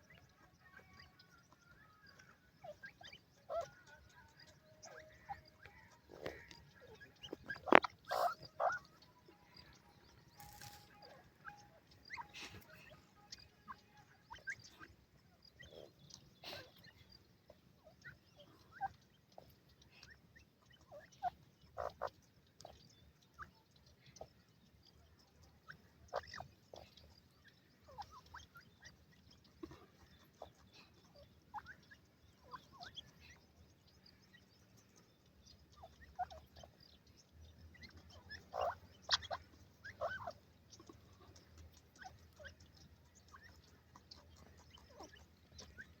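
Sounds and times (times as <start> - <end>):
birds calling: 0.0 - 46.0.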